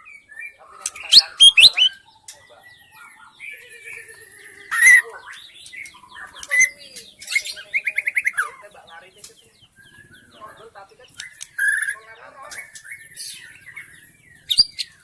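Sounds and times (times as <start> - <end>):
bird singing whistles and trills: 0.0 - 8.7, 9.6 - 10.4, 11.2 - 15.0.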